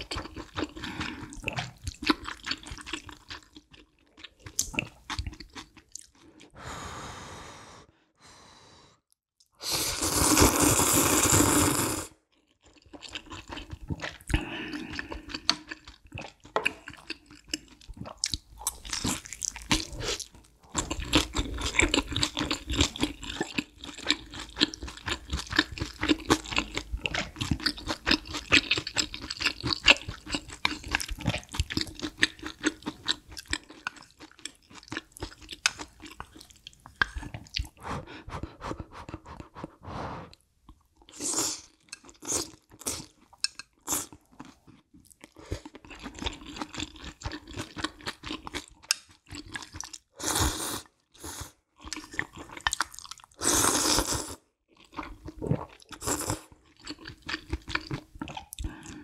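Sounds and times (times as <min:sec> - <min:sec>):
wet chewing and crunching: 0:00.0 - 0:06.5, 0:12.3 - 0:37.8, 0:40.7 - 0:50.2, 0:51.8 - 0:59.0.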